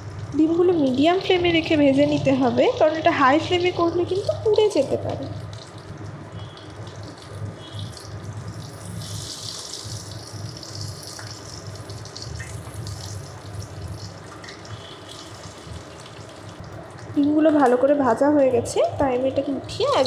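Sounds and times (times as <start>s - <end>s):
eggs sizzling in hot oil: 0.0s - 18.7s.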